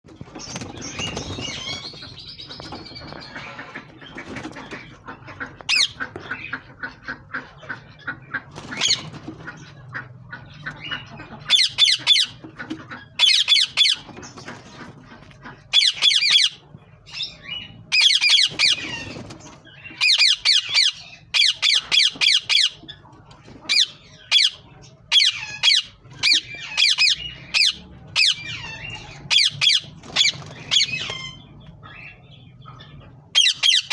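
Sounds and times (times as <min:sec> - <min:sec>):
parrots squawking: 0:00.6 - 0:33.9.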